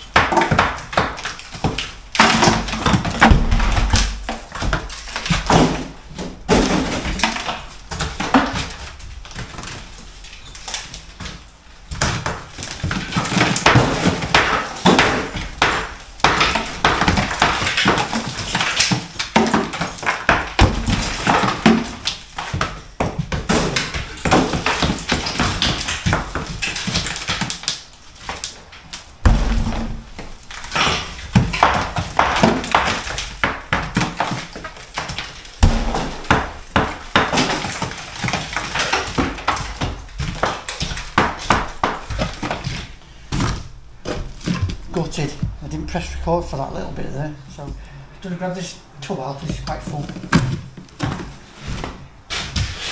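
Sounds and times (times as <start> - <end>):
bricks and rubble clattering: 0.0 - 45.7.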